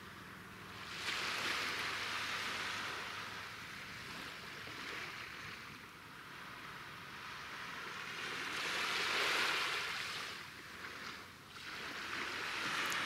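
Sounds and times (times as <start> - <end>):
small sea waves washing in: 0.0 - 13.0.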